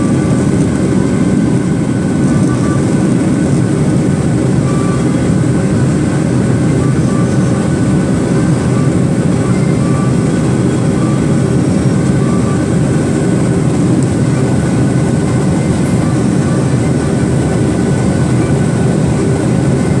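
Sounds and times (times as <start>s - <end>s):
jet engines in cabin: 0.0s - 20.0s.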